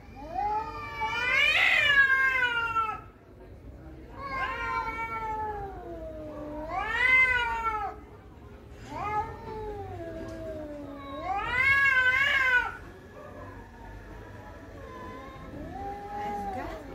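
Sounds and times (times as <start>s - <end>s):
cats yowling: 0.1s - 3.1s, 4.2s - 8.1s, 8.9s - 16.9s.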